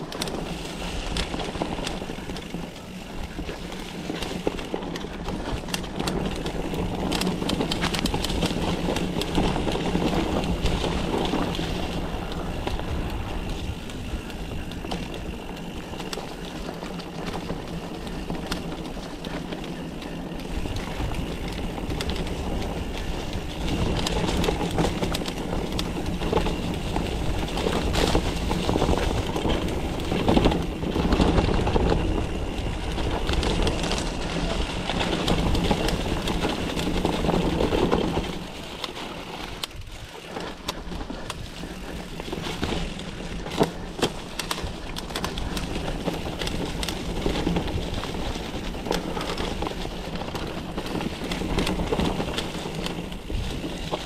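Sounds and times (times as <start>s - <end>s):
bike rattling and knocking: 0.0s - 54.0s
bike tyres rolling over dirt and rocks: 0.0s - 54.0s.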